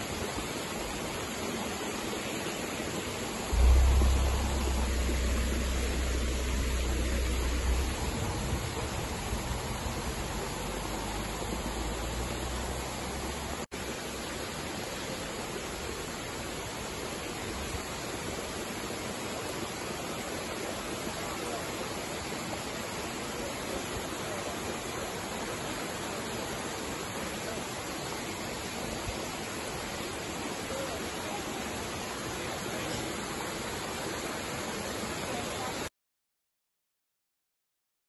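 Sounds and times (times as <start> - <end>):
small waterfall rushing: 0.0 - 35.9.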